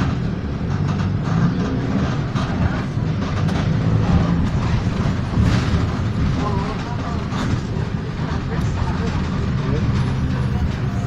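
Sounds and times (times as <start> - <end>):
bus diesel engine running: 0.0 - 11.0
rattles and knocks: 0.0 - 11.0.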